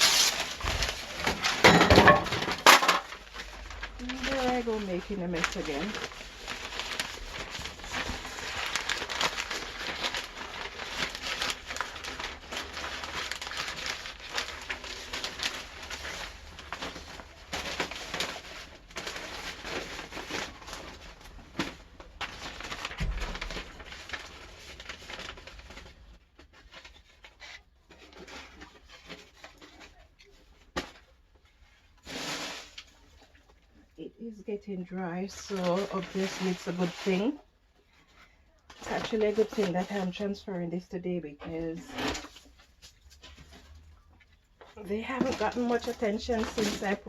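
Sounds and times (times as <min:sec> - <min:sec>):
damp cardboard rustling and crinkling: 0:00.0 - 0:33.9, 0:41.8 - 0:47.0.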